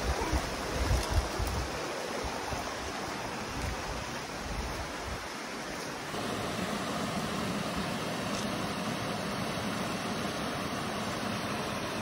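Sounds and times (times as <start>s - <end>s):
water flowing over rocks: 0.0s - 12.0s.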